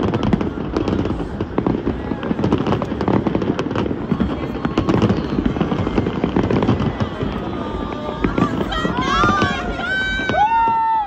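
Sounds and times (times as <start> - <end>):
crowd talking: 0.0 - 11.0
fireworks popping and crackling: 0.0 - 11.0.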